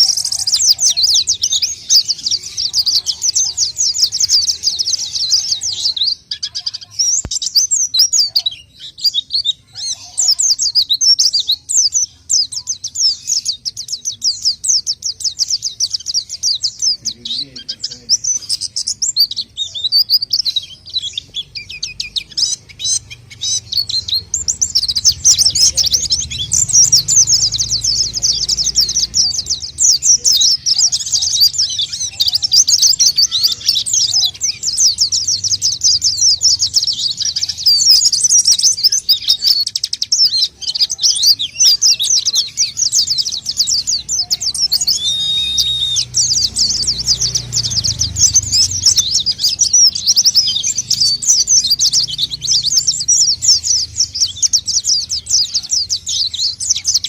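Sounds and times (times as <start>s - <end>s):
high twittering bird chirps: 0.0s - 57.0s.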